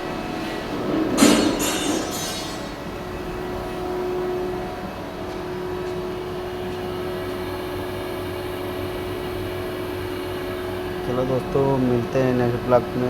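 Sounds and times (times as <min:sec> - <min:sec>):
lathe machine hum with whine: 0:00.0 - 0:13.0.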